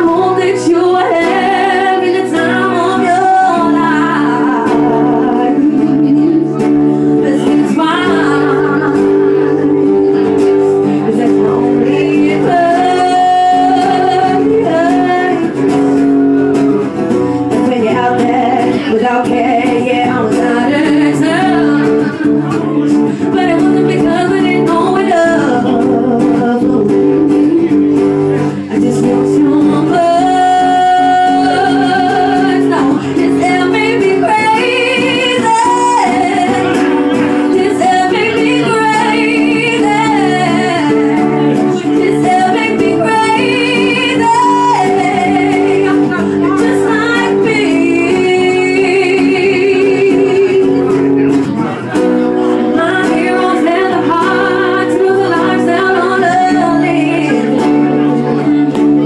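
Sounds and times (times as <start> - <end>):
guitar accompaniment: 0.0 - 59.0
person singing pop song: 0.0 - 59.0.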